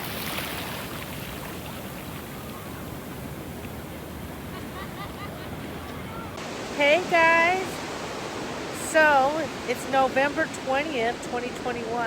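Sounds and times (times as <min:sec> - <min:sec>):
ocean surf washing onto beach: 0:00.0 - 0:12.0.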